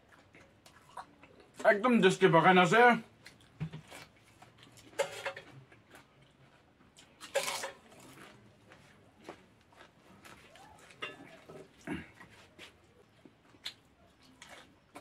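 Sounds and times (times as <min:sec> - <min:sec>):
man chewing with clicks and smacks: 0:00.0 - 0:01.7, 0:03.0 - 0:15.0.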